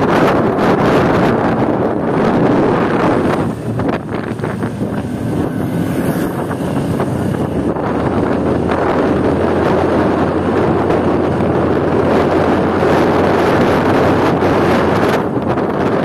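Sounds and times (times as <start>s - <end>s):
scooter running and road noise: 0.0s - 16.0s
wind rushing on microphone: 0.0s - 16.0s.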